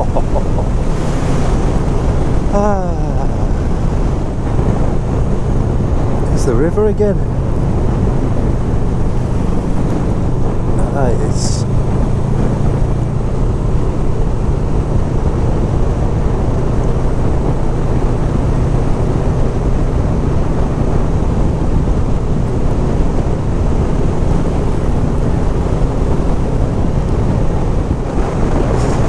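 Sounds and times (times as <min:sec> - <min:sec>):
motorcycle engine cruising: 0:00.0 - 0:29.0
wind rush: 0:00.0 - 0:29.0.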